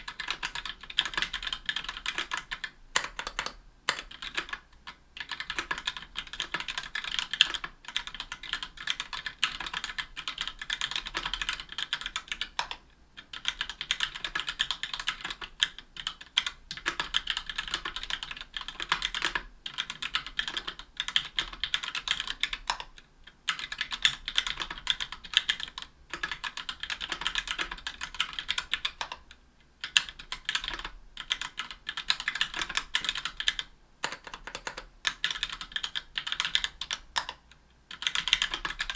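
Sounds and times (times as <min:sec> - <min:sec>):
mechanical keyboard typing: 0:00.0 - 0:29.2, 0:29.8 - 0:38.9.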